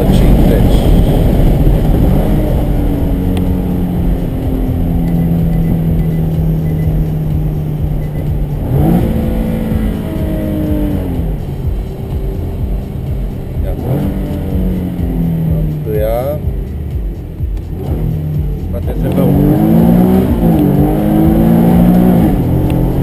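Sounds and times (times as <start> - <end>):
car engine running: 0.0 - 23.0
low road rumble: 0.0 - 23.0.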